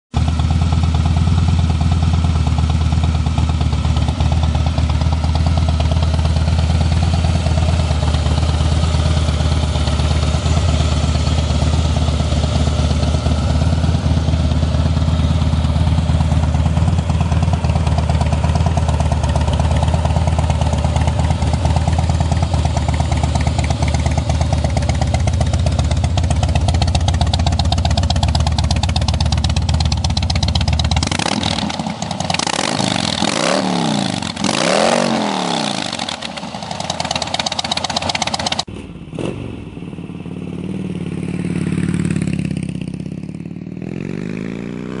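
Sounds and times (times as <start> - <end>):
motorcycle engine idling and revving: 0.1 - 45.0.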